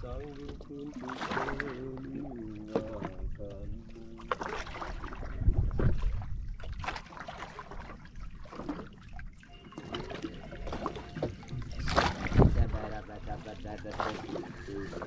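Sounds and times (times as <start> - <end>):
water splashing against hull: 0.0 - 15.0.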